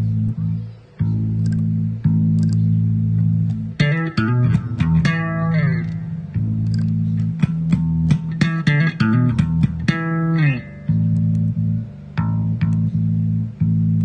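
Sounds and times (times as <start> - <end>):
electric bass guitar: 0.0 - 14.0.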